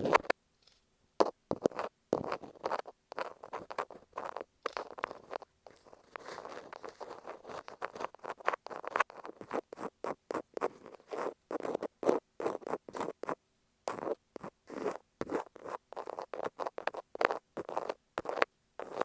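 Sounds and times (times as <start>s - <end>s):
thumbtack scratching masking tape: 1.2s - 19.0s.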